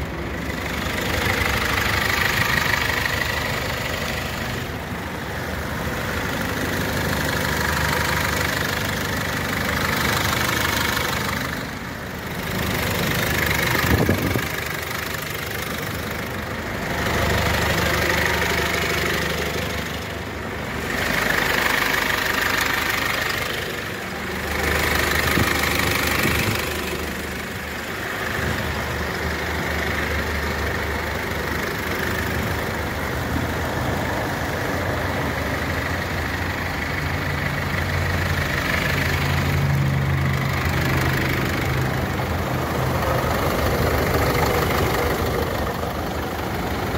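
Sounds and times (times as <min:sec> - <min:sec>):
diesel engines idling: 0:00.0 - 0:46.9.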